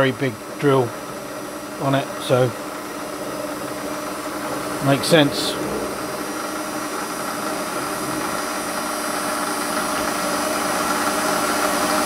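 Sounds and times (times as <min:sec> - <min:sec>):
bench lathe humming: 0:00.0 - 0:12.0.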